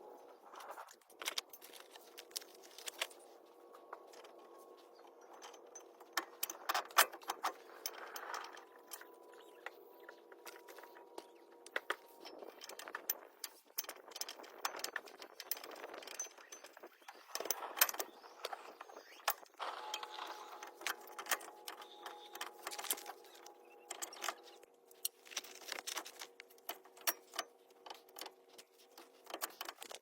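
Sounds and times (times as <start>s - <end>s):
metallic clicks of tools: 4.0s - 30.0s.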